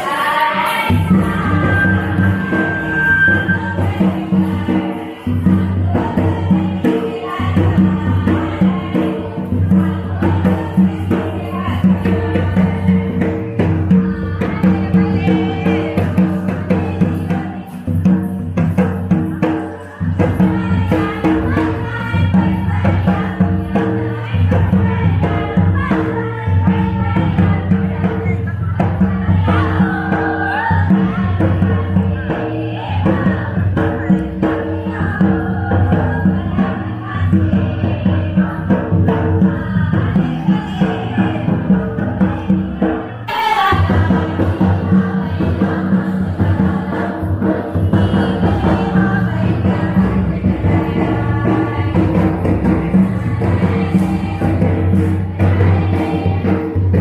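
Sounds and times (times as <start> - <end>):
drum beats: 0.0 - 57.0
group singing folk song: 0.0 - 57.0
jingling percussion: 0.0 - 57.0.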